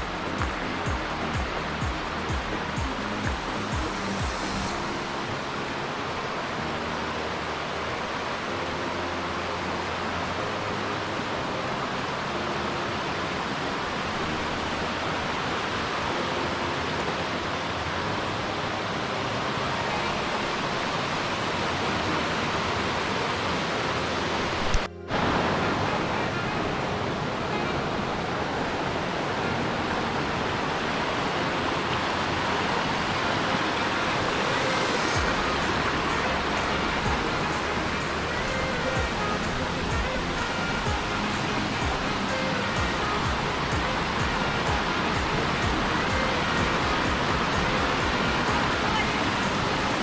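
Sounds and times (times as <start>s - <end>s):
mountain stream rushing: 0.0s - 50.0s.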